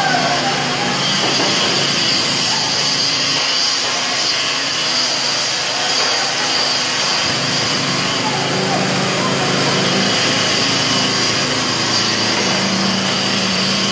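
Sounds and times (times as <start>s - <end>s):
small petrol engine running: 0.0s - 13.9s.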